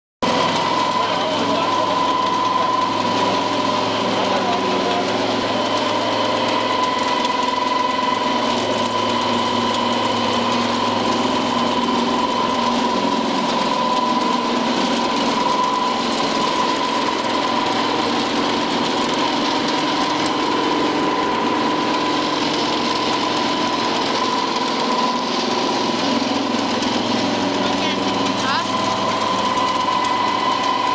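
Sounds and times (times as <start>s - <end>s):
pellet mill humming with high whine: 0.2s - 30.9s.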